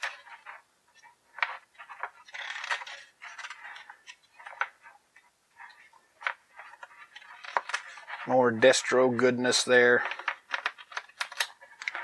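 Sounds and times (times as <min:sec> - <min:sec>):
comic book pages turning: 0:00.0 - 0:12.0.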